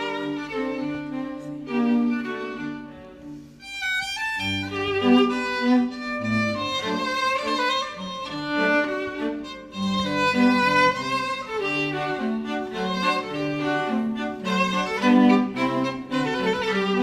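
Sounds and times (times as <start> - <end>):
violin melody over strings: 0.0 - 17.0.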